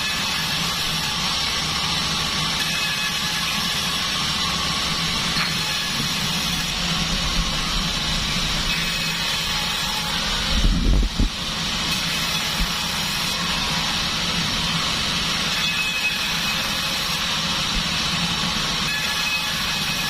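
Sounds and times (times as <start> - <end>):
bandsaw humming: 0.0 - 20.0.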